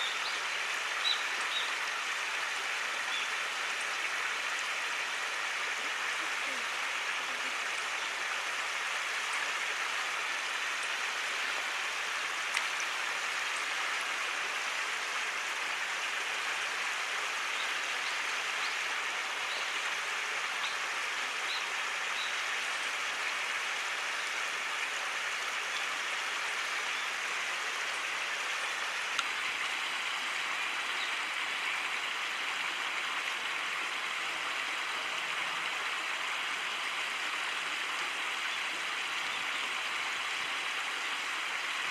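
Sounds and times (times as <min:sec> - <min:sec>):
stream flowing water: 0:00.0 - 0:41.9.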